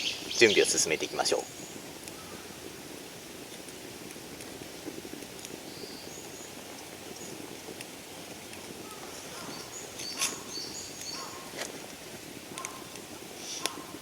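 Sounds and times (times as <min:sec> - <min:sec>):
birds chirping: 0:00.0 - 0:02.7, 0:05.5 - 0:14.0
low background hiss: 0:00.0 - 0:14.0.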